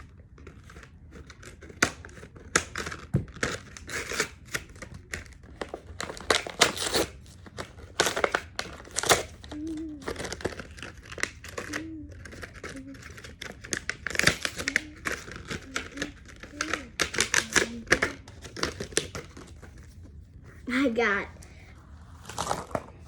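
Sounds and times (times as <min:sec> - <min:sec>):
plastic packaging crinkling and tearing: 0:00.0 - 0:20.1, 0:22.1 - 0:23.0.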